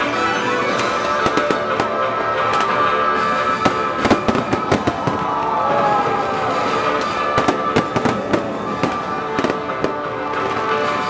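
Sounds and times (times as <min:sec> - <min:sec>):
music playing: 0:00.0 - 0:11.0
fireworks bangs and crackles: 0:00.6 - 0:11.0.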